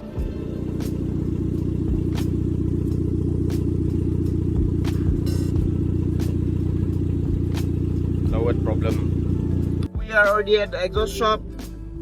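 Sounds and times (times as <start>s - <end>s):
vehicle engine idling: 0.0s - 11.4s.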